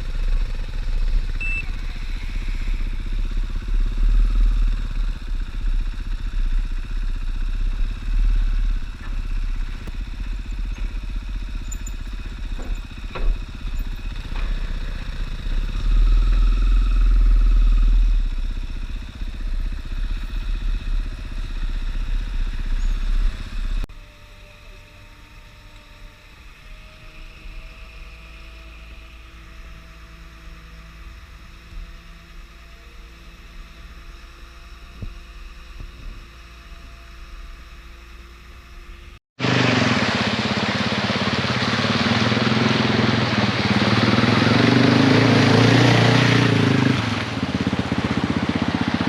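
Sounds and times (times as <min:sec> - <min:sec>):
dirt bike engine running: 0:00.0 - 0:24.2, 0:25.3 - 0:49.0.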